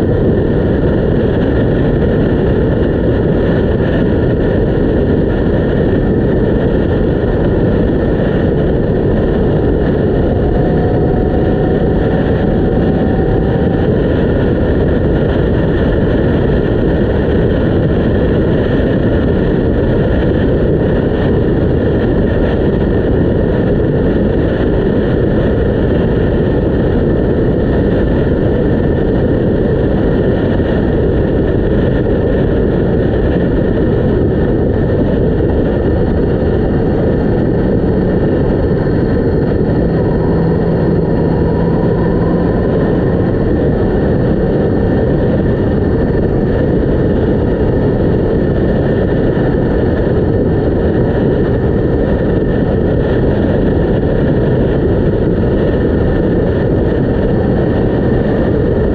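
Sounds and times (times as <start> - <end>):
motorcycle engine drone: 0.0 - 58.9
wind rushing on microphone: 0.0 - 58.9.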